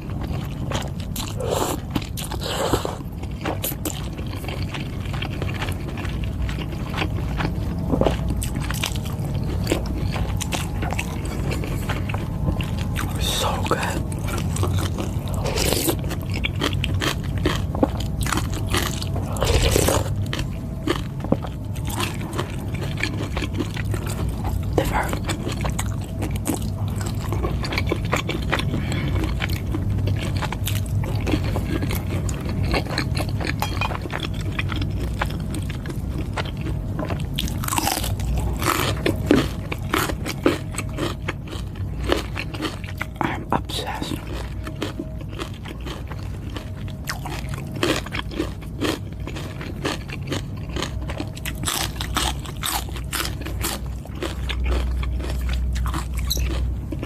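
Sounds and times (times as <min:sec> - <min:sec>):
chewing and crunchy bites: 0:00.0 - 0:57.0.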